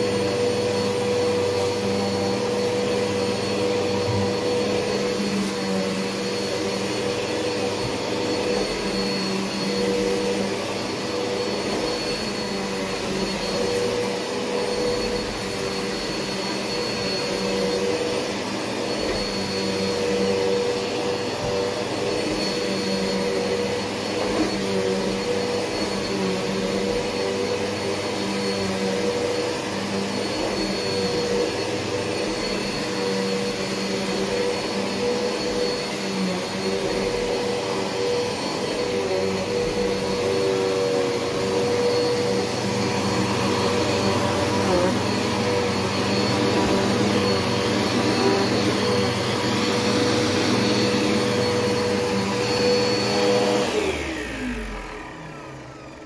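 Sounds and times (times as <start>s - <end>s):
vacuum cleaner on carpet: 0.0s - 56.0s.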